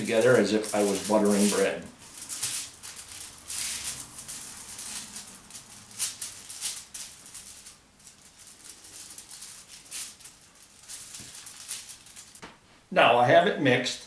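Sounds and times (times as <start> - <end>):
stick scraping aluminium foil: 0.0 - 12.4.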